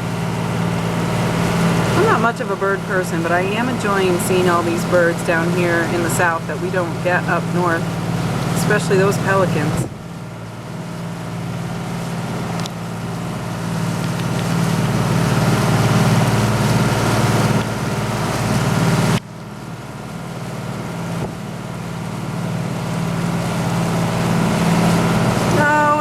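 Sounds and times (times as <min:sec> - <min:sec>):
boat engines droning: 0:00.0 - 0:26.0
water rushing: 0:00.0 - 0:26.0
wind: 0:00.0 - 0:26.0.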